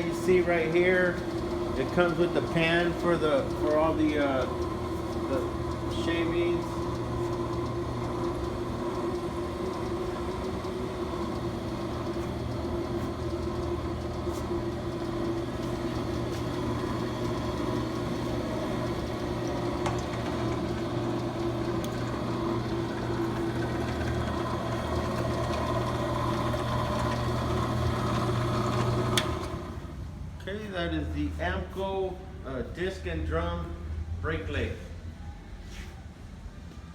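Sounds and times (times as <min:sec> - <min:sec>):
brake lathe motor humming: 0:00.0 - 0:30.0.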